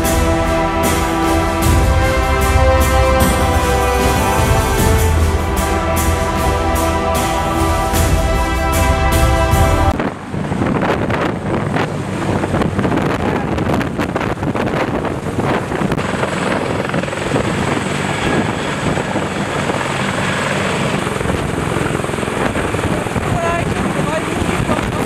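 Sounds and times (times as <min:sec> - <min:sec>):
helicopter rotor roar: 0:00.0 - 0:25.0.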